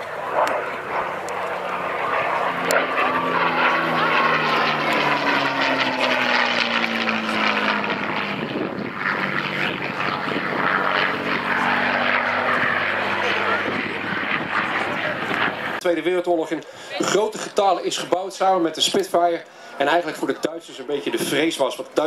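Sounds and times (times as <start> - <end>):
propeller plane engine flying past: 0.0 - 22.0.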